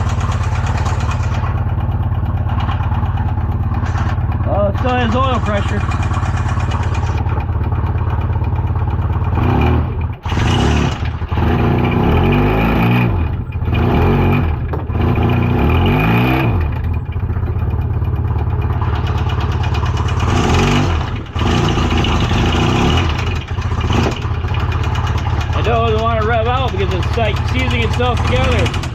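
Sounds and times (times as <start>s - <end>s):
engine running and revving: 0.0s - 28.9s.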